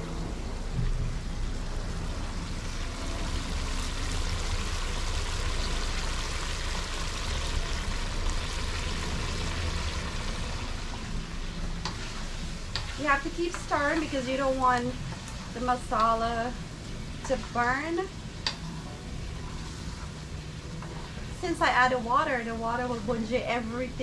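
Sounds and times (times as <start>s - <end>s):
curry boiling and bubbling: 0.0s - 24.0s
gas burner rumble: 0.0s - 24.0s.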